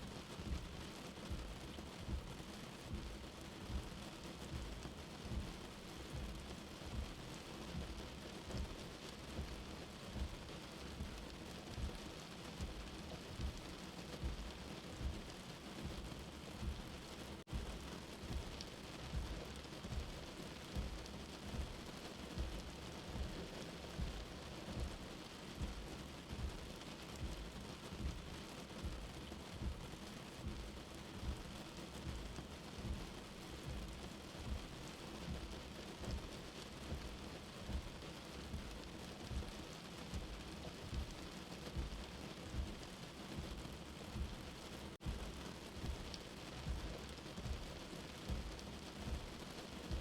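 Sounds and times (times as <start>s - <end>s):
soft low heartbeat: 0.0s - 50.0s
steady rain: 0.0s - 50.0s.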